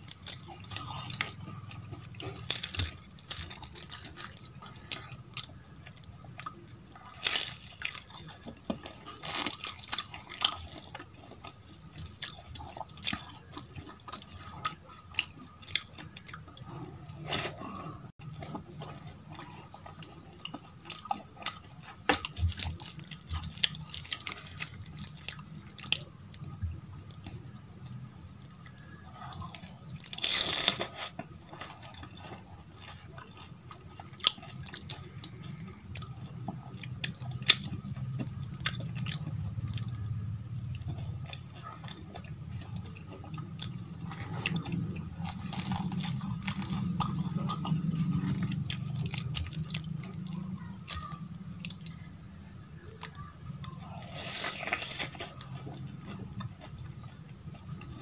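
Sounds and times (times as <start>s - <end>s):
crunching and chewing fried food: 0.0s - 58.0s.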